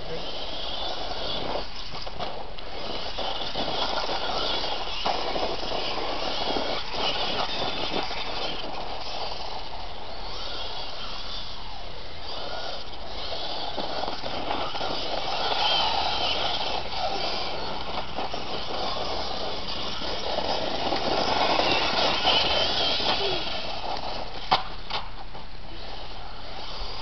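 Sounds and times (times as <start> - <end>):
electric motor whine: 0.0 - 27.0
tyres scrabbling over dirt: 0.2 - 27.0.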